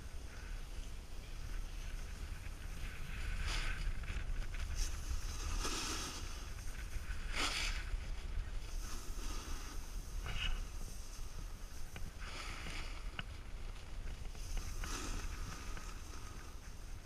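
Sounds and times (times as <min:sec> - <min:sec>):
wind on microphone: 0:00.0 - 0:17.0
snowboard scraping on snow: 0:00.1 - 0:17.0.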